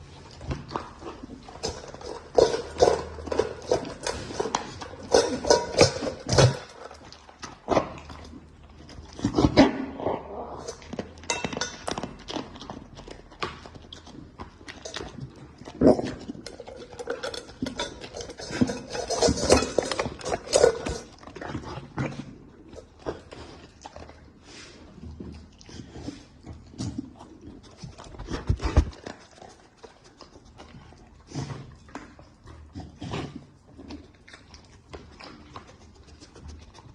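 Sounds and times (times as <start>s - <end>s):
dog chewing from a bowl: 0.0s - 36.9s.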